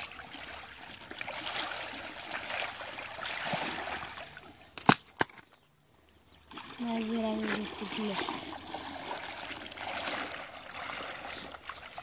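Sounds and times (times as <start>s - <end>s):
water sloshing and splashing: 0.0s - 5.6s, 6.4s - 12.0s.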